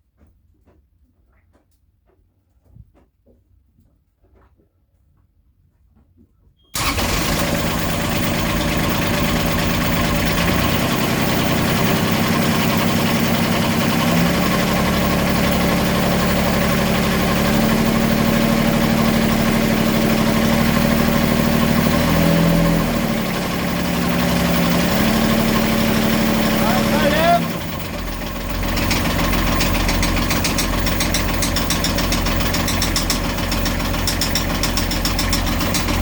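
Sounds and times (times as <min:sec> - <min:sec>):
diesel engine idling: 0:06.8 - 0:36.0.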